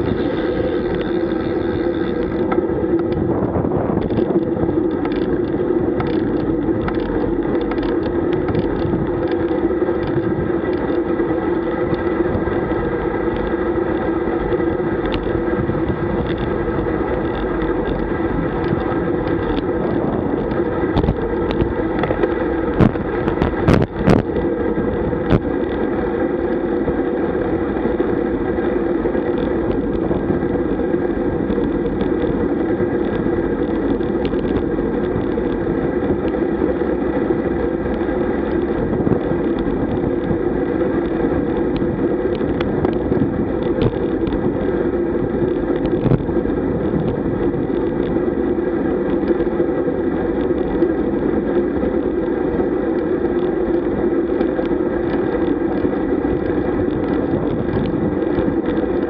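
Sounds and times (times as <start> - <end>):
bicycle tyre and road noise: 0.0 - 59.0
wind over microphone: 0.0 - 59.0.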